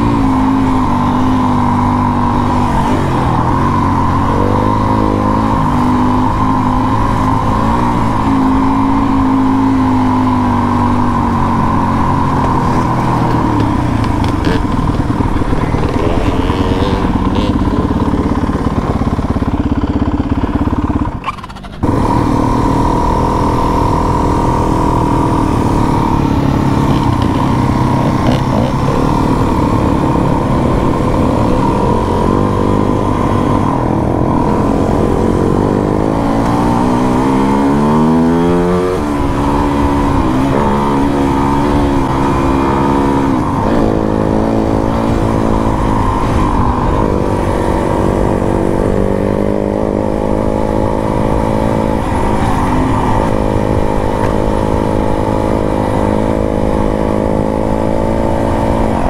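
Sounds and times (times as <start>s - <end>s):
trail bike engine revving: 0.0s - 59.0s.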